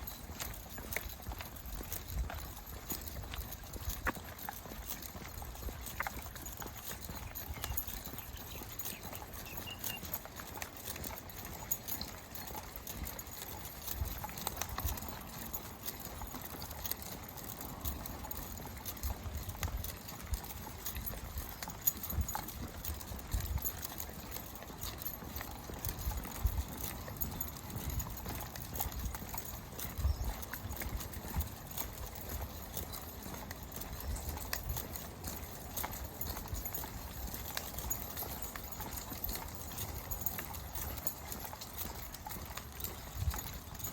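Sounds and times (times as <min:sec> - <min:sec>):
dogs' paws clicking: 0:00.0 - 0:43.9
footsteps on a trail: 0:00.0 - 0:43.9.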